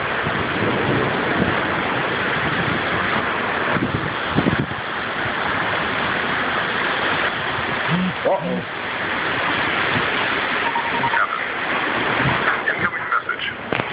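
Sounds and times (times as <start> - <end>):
heavy rain: 0.0 - 13.9
wind: 0.0 - 13.9.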